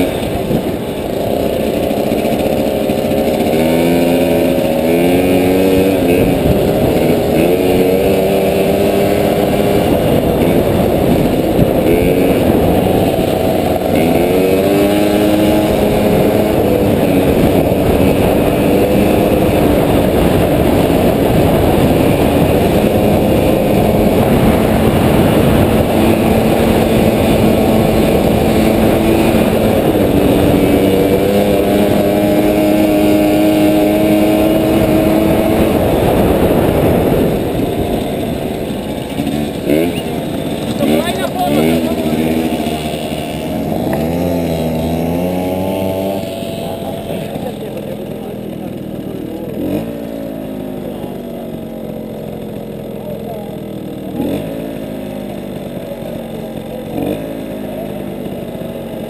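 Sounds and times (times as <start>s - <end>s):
moped engines revving: 0.0s - 59.0s.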